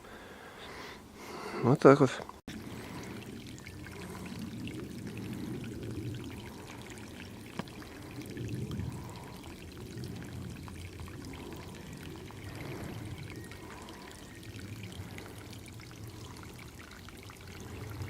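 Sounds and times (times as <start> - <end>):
stream water pouring: 2.5 - 18.0.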